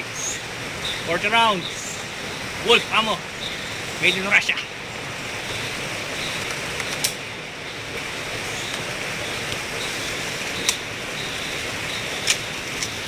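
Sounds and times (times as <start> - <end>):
steady rushing background noise: 0.0 - 13.0.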